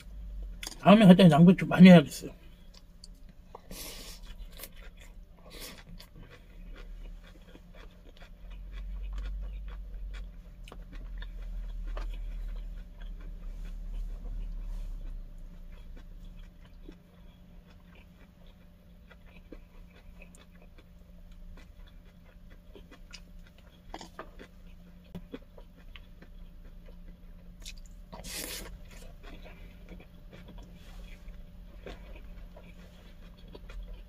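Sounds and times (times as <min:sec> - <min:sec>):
person chewing food: 0:00.0 - 0:00.8, 0:02.3 - 0:34.0
low hum: 0:00.0 - 0:34.0.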